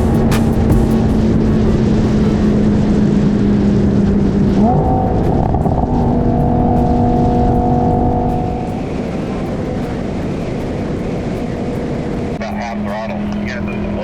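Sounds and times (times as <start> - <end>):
car engine running hard: 0.0 - 14.0
wind and road noise: 0.0 - 14.0.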